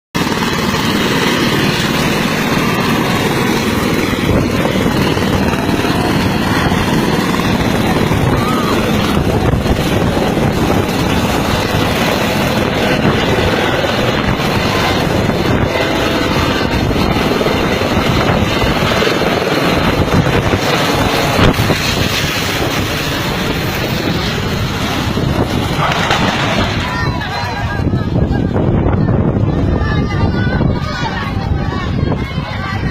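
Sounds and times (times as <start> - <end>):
helicopter rotor chopping: 0.1 - 32.9.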